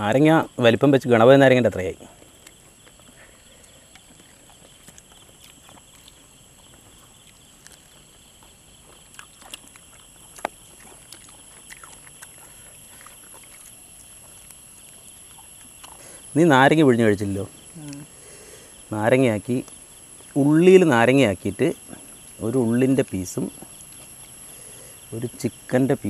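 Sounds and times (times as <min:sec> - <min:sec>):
high insect drone: 0:00.0 - 0:26.0
people eating with hands: 0:01.4 - 0:26.0.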